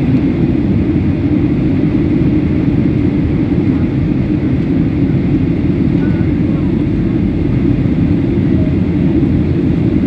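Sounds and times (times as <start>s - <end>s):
airliner cabin noise: 0.0s - 10.0s.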